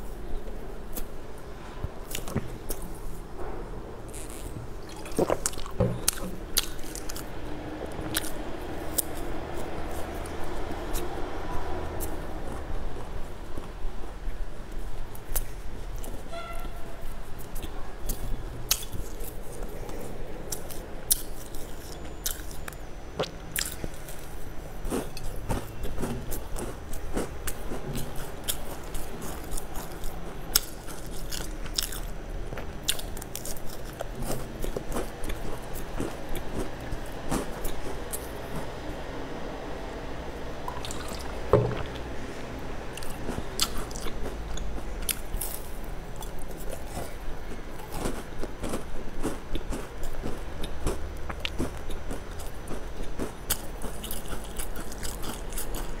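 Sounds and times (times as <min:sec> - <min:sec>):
crunchy chewing: 0:02.0 - 0:03.2, 0:04.1 - 0:13.8, 0:17.0 - 0:38.8, 0:42.9 - 0:56.0.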